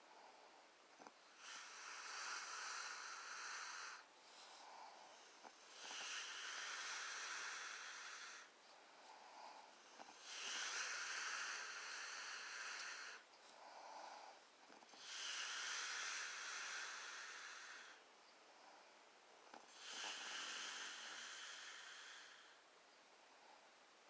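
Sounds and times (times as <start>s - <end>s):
faint hissy snoring: 0.0s - 24.0s.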